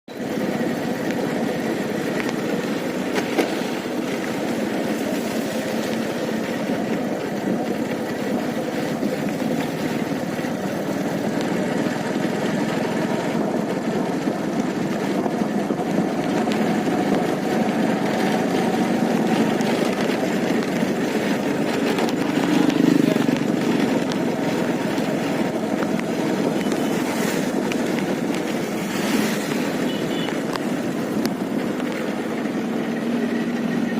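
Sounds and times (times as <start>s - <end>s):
vehicle engine running: 0.1s - 33.9s.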